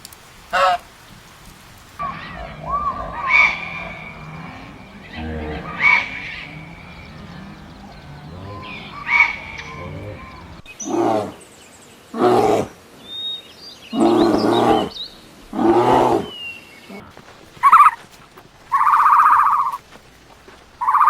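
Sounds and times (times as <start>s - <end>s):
birds chirping: 0.5s - 21.0s
lion roaring: 2.0s - 11.4s, 12.1s - 12.8s, 13.9s - 21.0s.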